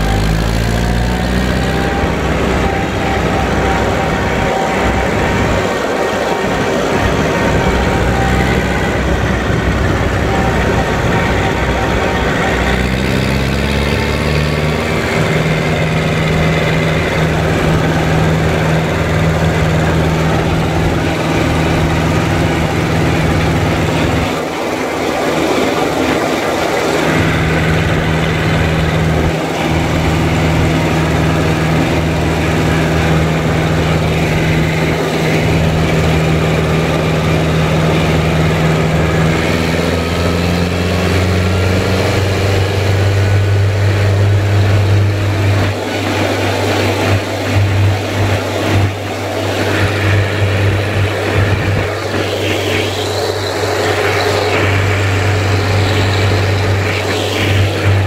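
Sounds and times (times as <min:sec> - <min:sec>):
engine knocks: 0:00.0 - 0:58.0
tractor diesel engine running: 0:00.0 - 0:58.0.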